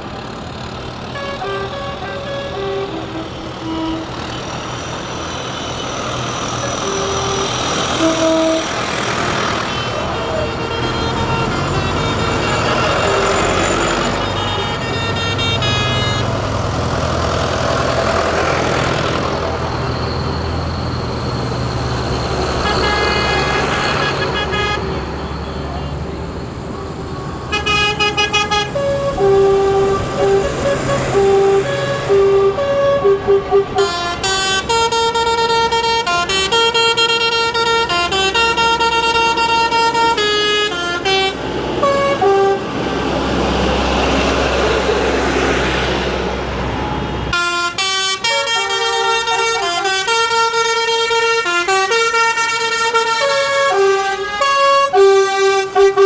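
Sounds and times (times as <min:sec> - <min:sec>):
tractor engines rumbling: 0:00.0 - 0:56.0
tractor horns tooting: 0:00.0 - 0:56.0.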